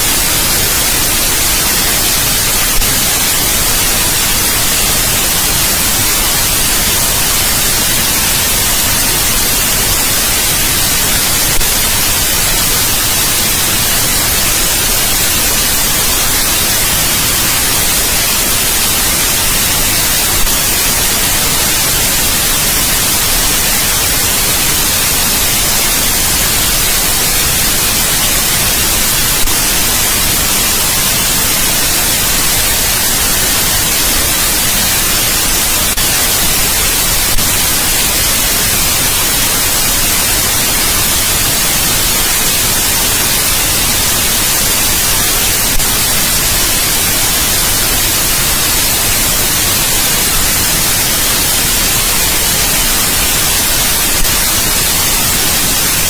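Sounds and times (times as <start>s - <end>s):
electronic white noise hiss: 0.0s - 56.0s.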